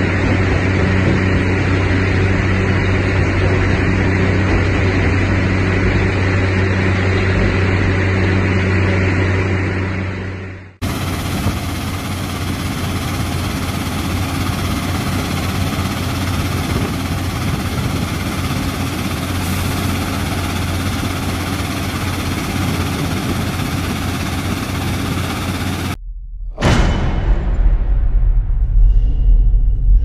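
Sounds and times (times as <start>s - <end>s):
rock crusher machinery droning: 0.0s - 26.0s.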